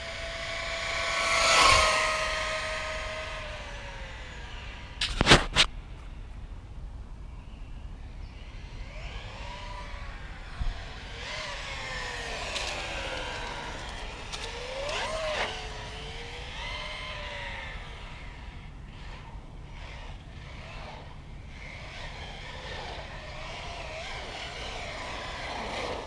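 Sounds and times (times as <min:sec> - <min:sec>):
toy truck electric motor whining: 0:00.0 - 0:05.2, 0:08.5 - 0:26.0.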